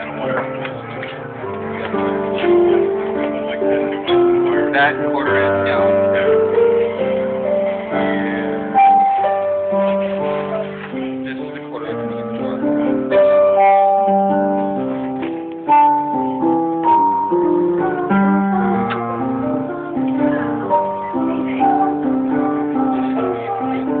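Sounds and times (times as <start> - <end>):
slow piano chords: 0.0 - 24.0.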